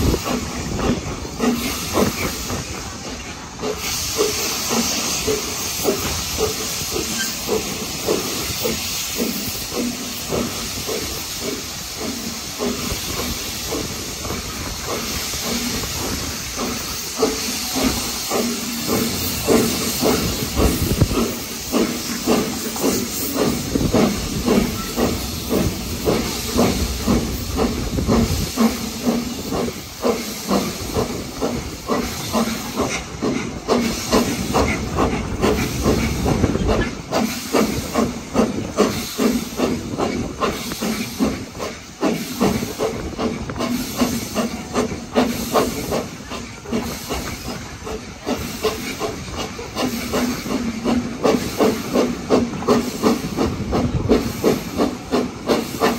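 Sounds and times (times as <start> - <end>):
steam hissing: 0.0 - 55.9
steam locomotive exhaust chuffs: 0.0 - 55.9.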